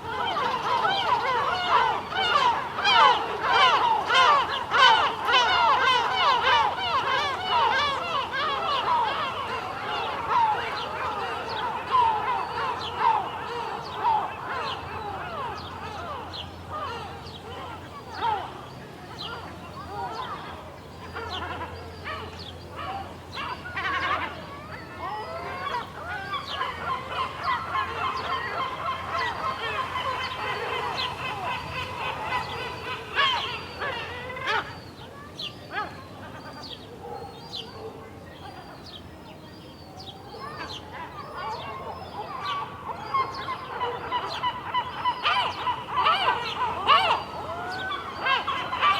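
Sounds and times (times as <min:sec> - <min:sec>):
gulls calling: 0:00.0 - 0:48.9.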